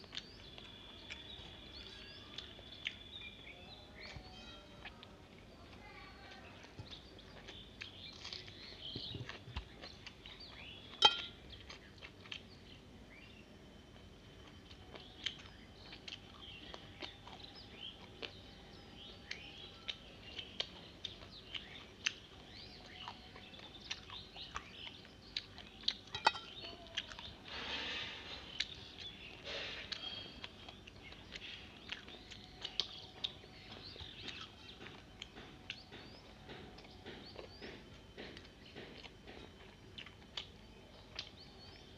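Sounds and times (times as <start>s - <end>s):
chewing and mouth clicks: 0.0s - 4.2s, 4.8s - 12.7s, 13.9s - 27.4s, 28.5s - 41.9s.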